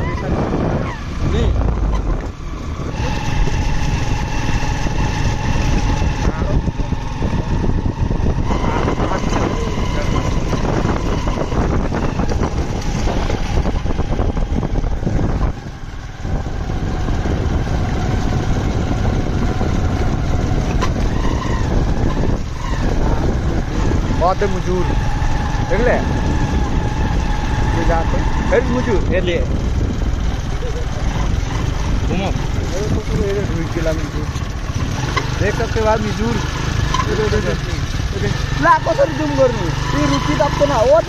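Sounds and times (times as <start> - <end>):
vehicle engine rumble and whine: 0.0 - 41.0.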